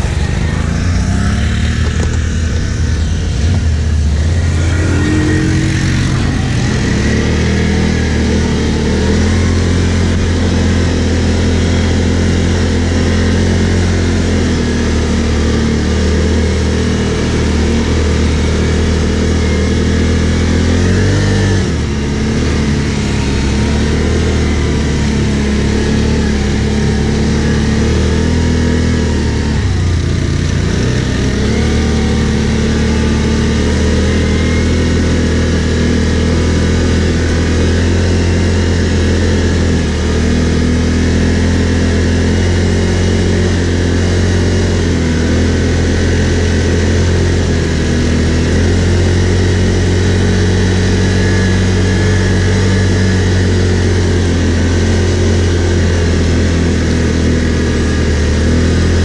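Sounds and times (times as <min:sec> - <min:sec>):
quad engine running: 0:00.0 - 0:59.0.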